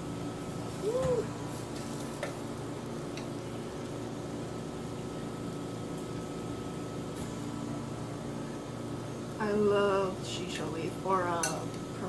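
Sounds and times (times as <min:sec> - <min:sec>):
leaf frying in oil hiss: 0:00.0 - 0:12.0
steady hum: 0:00.0 - 0:12.0.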